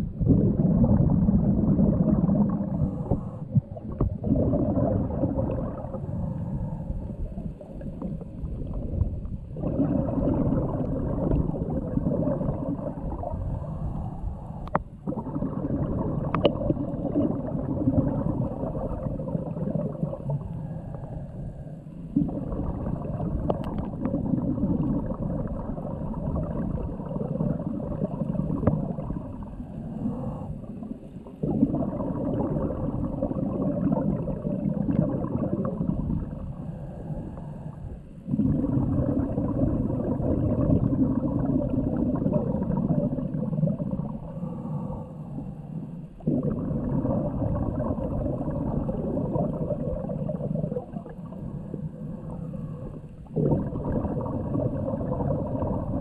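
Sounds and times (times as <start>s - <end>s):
scuba regulator bubbling: 0.0s - 56.0s.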